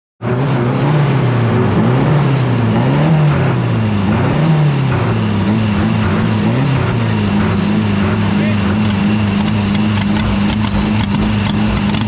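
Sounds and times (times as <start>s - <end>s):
tractor engine revving: 0.2s - 12.0s.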